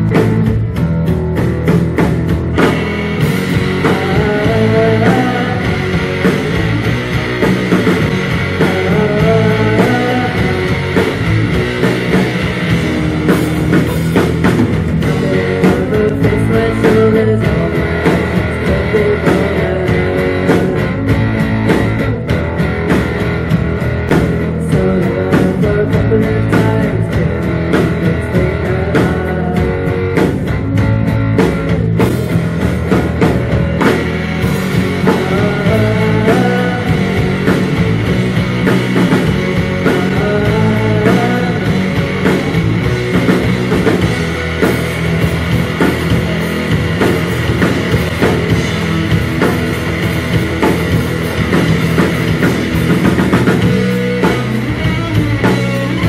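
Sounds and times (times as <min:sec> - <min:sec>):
bass guitar: 0:00.0 - 0:56.0
drum kit: 0:00.0 - 0:56.0
electric guitars: 0:00.0 - 0:56.0.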